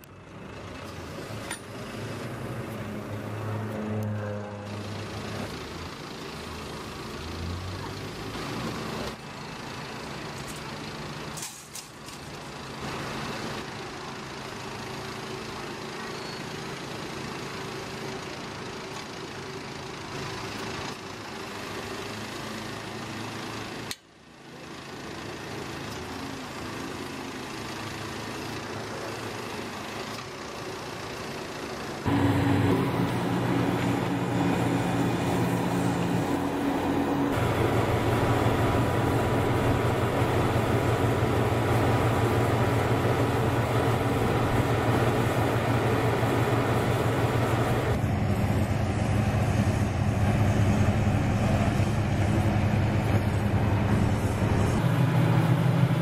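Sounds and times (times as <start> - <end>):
engine and hydraulic machinery: 0.0 - 56.0
paving machine engine hum: 0.0 - 56.0.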